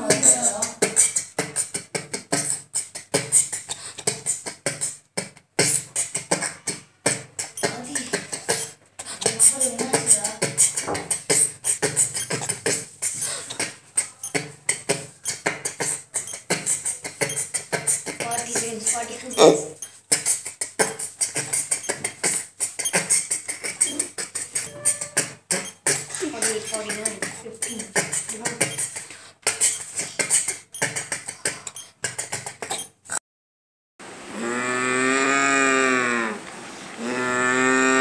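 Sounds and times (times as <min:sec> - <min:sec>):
child beatboxing mouth sounds: 0:00.0 - 0:33.2.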